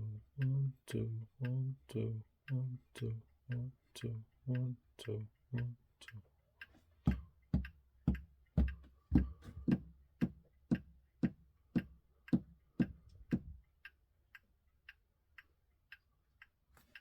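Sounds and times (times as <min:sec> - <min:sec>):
clock ticking: 0:00.0 - 0:17.0.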